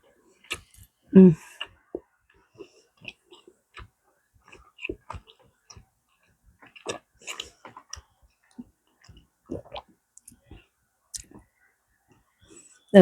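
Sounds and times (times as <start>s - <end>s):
chewing with wet mouth clicks: 0.4s - 0.9s, 1.6s - 11.5s.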